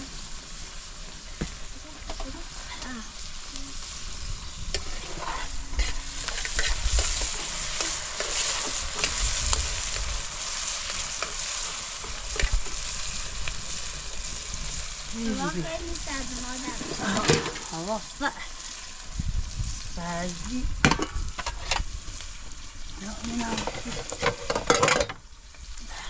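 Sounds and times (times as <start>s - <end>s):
food sizzling in hot oil: 0.0s - 26.0s
oil crackling and popping: 0.0s - 26.0s.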